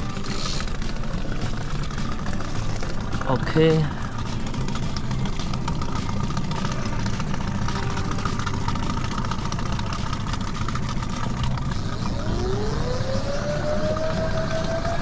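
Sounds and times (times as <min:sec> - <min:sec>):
outboard motor running: 0:00.0 - 0:15.0
rising electric motor whine: 0:00.0 - 0:15.0.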